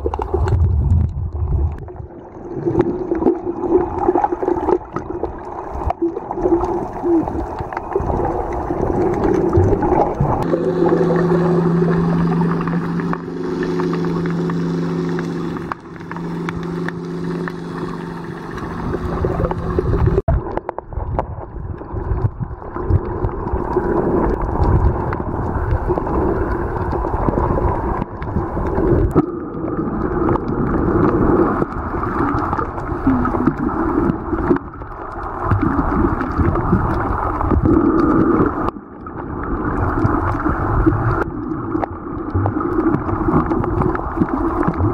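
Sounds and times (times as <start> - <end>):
low motor hum underwater: 0.0 - 44.9
water rushing and gurgling: 0.0 - 44.9.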